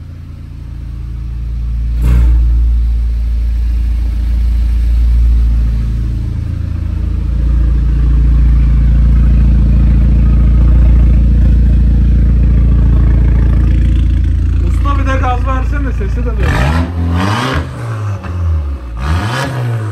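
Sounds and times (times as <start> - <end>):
turbo car exhaust: 0.0 - 19.9.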